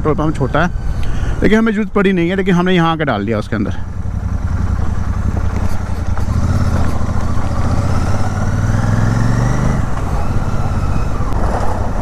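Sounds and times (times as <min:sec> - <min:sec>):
motorcycle engine running: 0:02.2 - 0:12.0.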